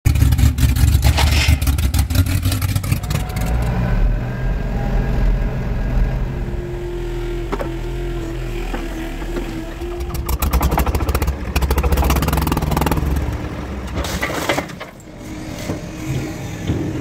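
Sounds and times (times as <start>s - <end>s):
car engine revving with cracks: 0.1s - 15.0s
loader engine humming: 0.1s - 17.0s.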